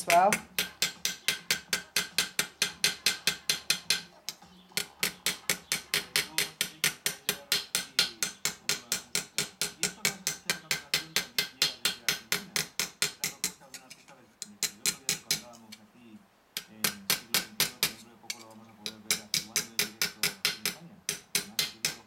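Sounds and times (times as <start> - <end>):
hammer tapping on metal: 0.0 - 15.8, 16.6 - 22.0.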